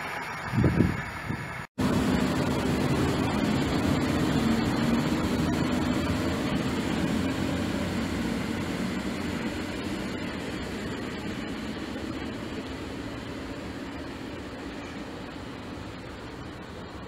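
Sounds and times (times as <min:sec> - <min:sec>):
electric locomotive humming: 0:00.0 - 0:17.0.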